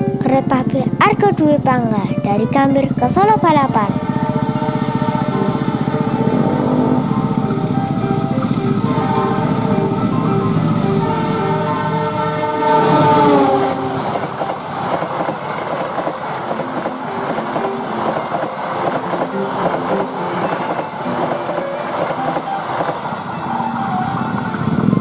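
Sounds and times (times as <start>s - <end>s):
locomotive passing: 0.9s - 25.0s
train wheels clattering: 4.4s - 25.0s.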